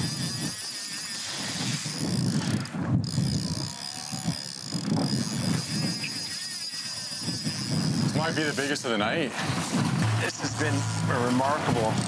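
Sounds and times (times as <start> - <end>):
wind buffeting microphone: 0.0 - 6.4, 7.0 - 12.0.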